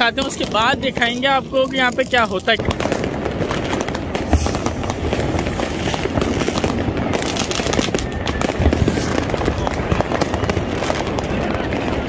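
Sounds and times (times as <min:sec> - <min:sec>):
firecrackers crackling: 0:00.0 - 0:12.0
fireworks booming: 0:00.0 - 0:12.0.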